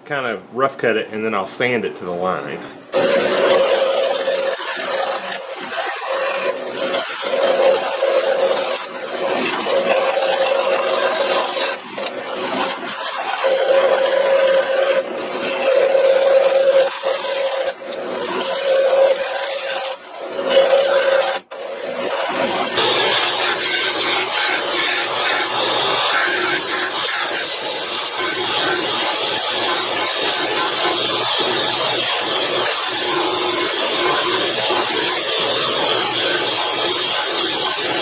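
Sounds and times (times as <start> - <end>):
bandsaw cutting steel: 2.2 - 38.0.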